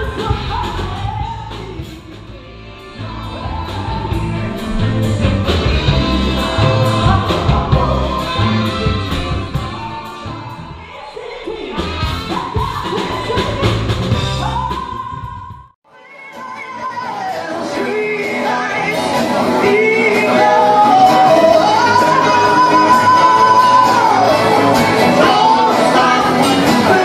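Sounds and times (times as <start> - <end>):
live rock and roll band: 0.0 - 10.8, 11.7 - 27.0
lead singing: 0.0 - 15.1, 16.0 - 27.0.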